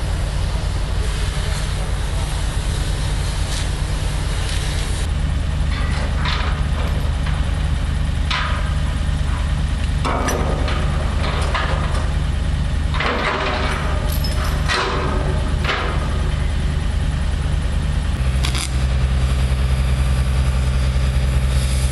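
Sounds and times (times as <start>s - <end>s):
heavy engine idling: 0.0s - 21.9s.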